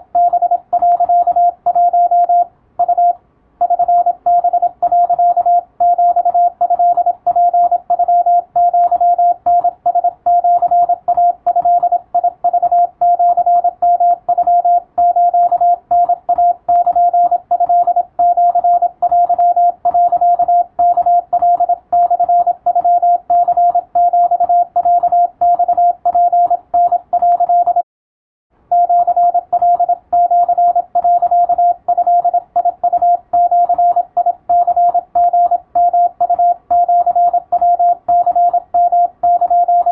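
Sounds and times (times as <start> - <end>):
morse code tone: 0.1 - 27.8, 28.7 - 39.9.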